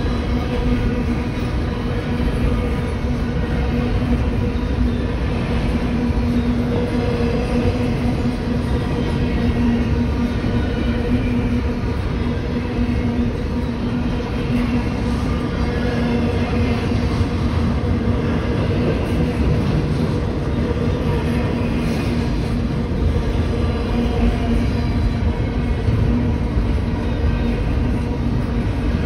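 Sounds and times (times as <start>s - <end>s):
steady underlying hum: 0.0s - 29.0s.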